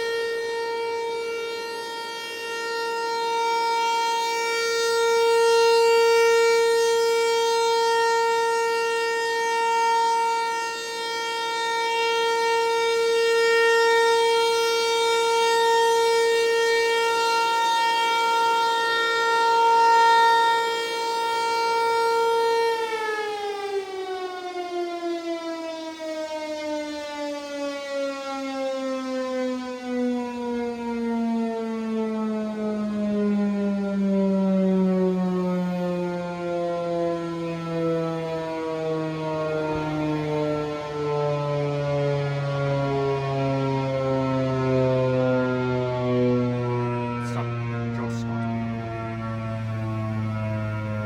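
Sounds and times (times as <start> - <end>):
warning siren: 0.0 - 51.0.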